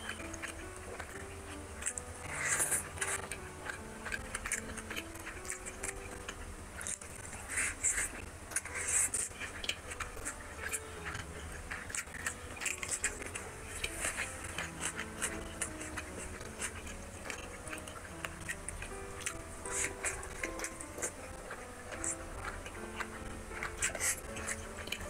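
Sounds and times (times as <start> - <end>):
fingers mixing rice on plate: 0.0 - 25.0
person chewing: 0.0 - 25.0
slow background music: 0.0 - 25.0.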